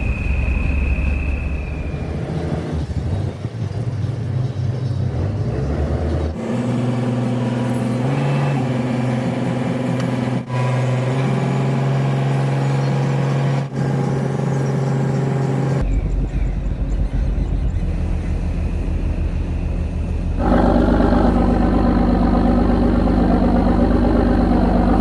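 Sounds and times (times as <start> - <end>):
boat engine droning: 0.0 - 4.0, 5.2 - 25.0.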